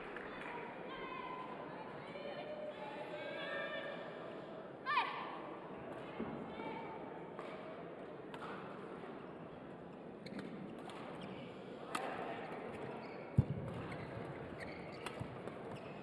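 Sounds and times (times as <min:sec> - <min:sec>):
indoor arena hum: 0:00.0 - 0:16.0.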